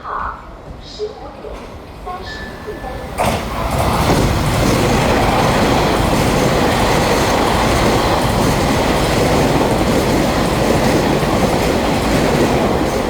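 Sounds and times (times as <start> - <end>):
train wheels rushing on rails: 1.4 - 13.0.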